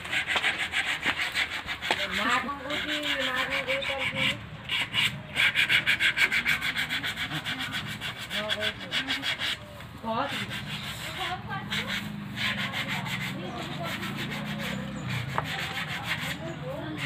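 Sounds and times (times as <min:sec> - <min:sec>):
hand tool rasping wood: 0:00.0 - 0:17.0.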